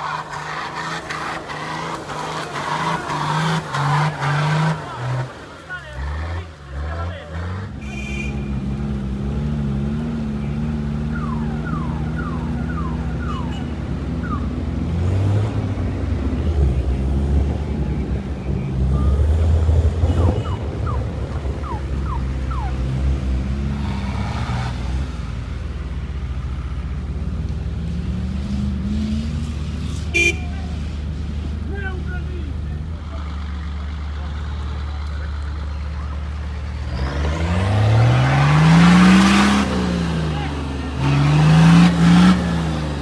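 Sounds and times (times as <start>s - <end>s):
suv engines running: 0.0s - 43.0s.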